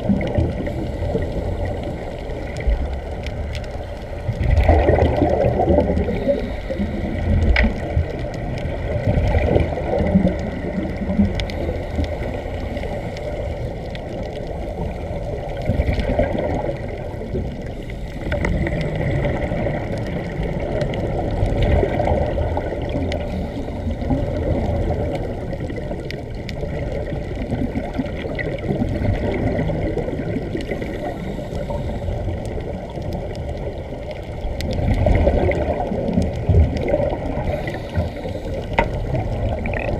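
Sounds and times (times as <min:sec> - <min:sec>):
faint clicks: 0:00.0 - 0:39.9
underwater air bubbles gurgling: 0:00.0 - 0:39.9.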